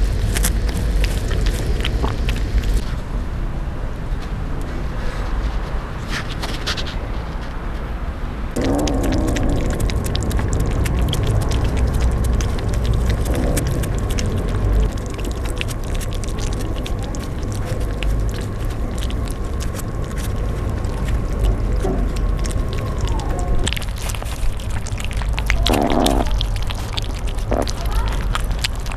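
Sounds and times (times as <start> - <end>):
kittens chewing and lapping: 0.0 - 2.9, 8.5 - 28.9
steady low rumble: 0.0 - 6.0, 6.9 - 28.9.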